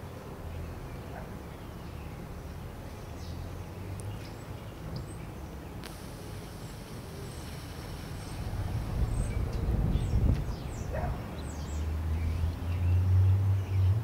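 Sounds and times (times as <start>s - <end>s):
small birds chirping: 0.0s - 14.0s
low uneven rumble: 0.6s - 12.8s.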